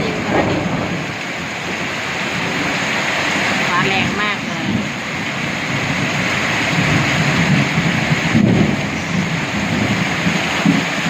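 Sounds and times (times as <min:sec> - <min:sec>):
heavy rain pouring: 0:00.0 - 0:11.0
low rumble of thunder: 0:00.0 - 0:11.0.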